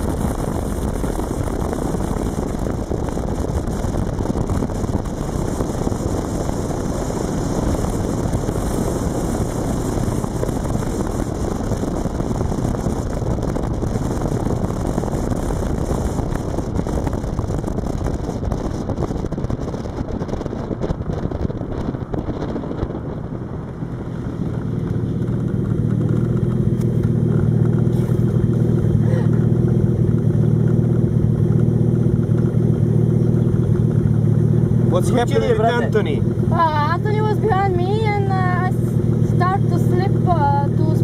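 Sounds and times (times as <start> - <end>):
race car engine: 0.0 - 41.0
wind and road noise: 0.0 - 41.0.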